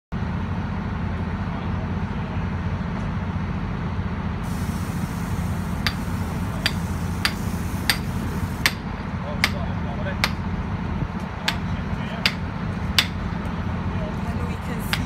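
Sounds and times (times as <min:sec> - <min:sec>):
drilling rig engine drone: 0:00.2 - 0:15.0.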